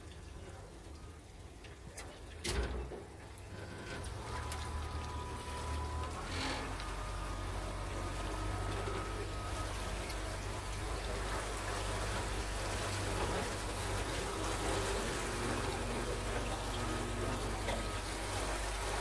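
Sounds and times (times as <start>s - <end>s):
boat motor hum: 0.0s - 19.0s
water rushing: 0.0s - 19.0s
wind: 0.0s - 19.0s.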